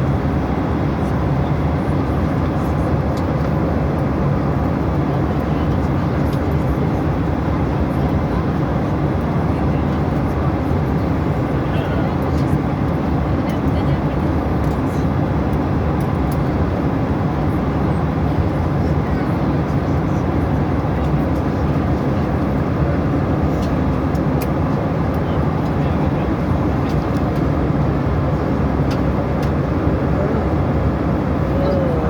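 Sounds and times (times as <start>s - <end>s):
airliner cabin engine rumble: 0.0s - 32.0s.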